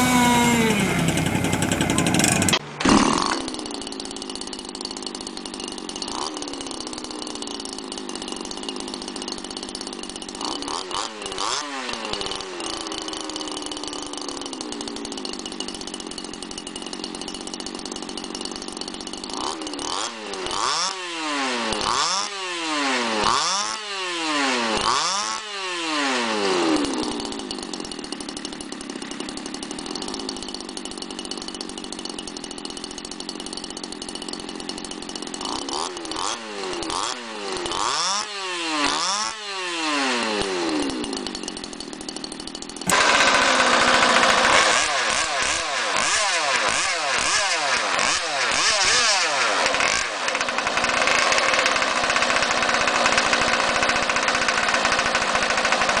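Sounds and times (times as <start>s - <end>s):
model boat engine revving: 0.0s - 56.0s
small two-stroke engine revving: 0.0s - 56.0s.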